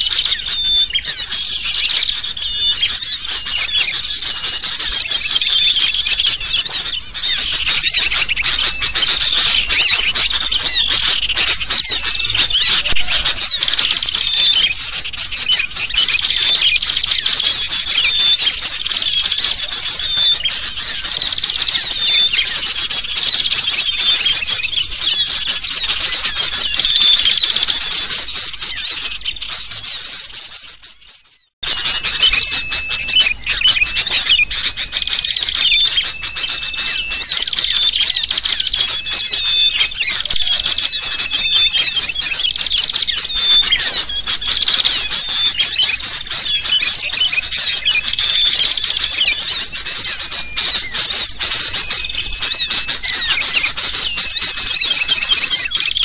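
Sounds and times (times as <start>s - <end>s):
bulbul calls: 0.0s - 56.0s
small birds chirping: 0.0s - 56.0s.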